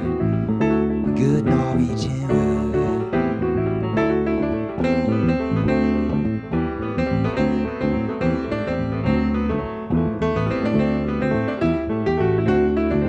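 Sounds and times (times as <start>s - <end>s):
piano-toned keyboard melody: 0.0s - 13.0s.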